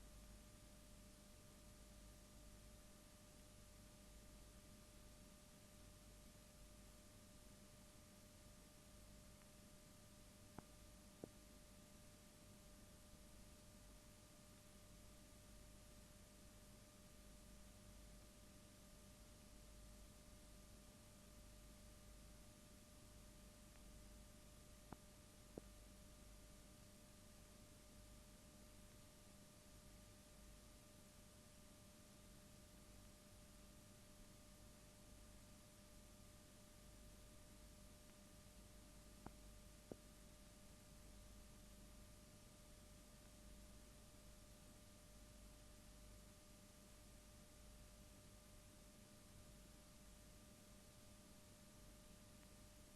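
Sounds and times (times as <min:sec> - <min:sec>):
faint hum with hiss: 0:00.0 - 0:52.9.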